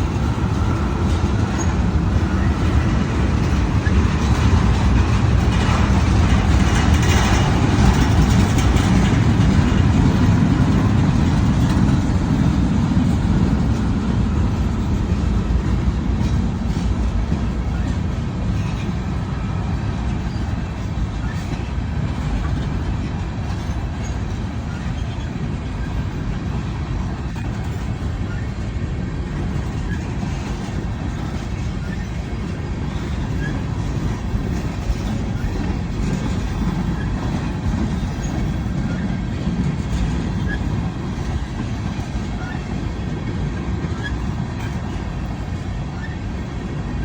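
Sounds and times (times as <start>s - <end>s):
train rumbling by: 0.0s - 47.0s.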